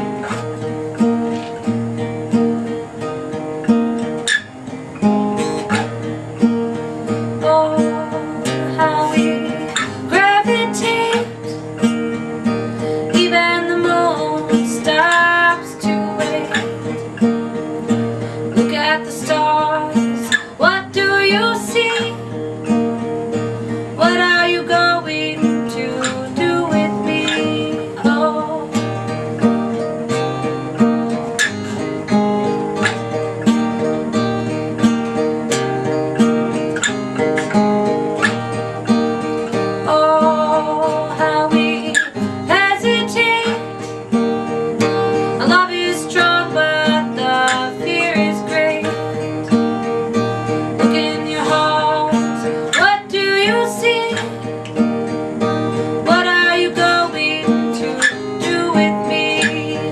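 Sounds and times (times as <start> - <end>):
acoustic guitar picking and strumming: 0.0 - 59.9.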